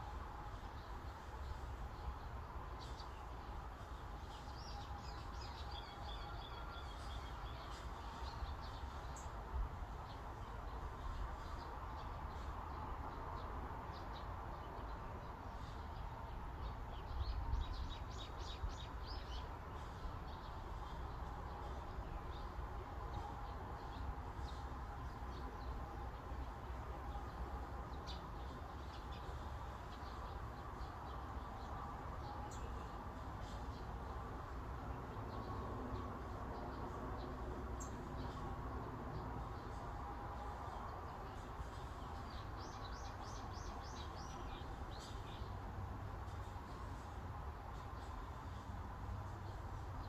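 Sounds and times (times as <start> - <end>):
steady breeze: 0.0 - 50.0.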